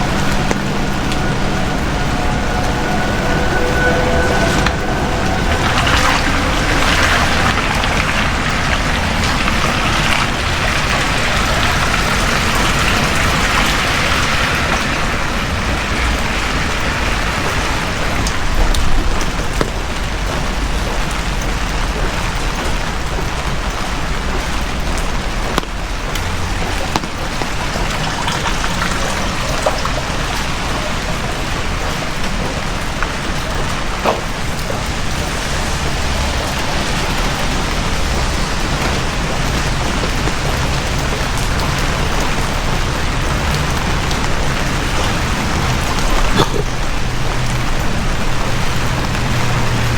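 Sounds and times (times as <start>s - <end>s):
heavy rain on street: 0.0s - 49.9s
vehicle passing on wet road: 0.0s - 49.9s.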